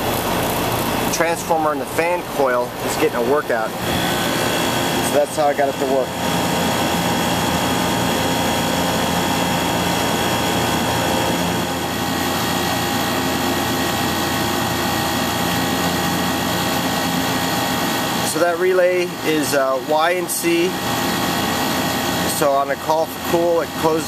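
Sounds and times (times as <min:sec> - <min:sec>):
heat pump hum and fan whoosh: 0:00.0 - 0:24.0.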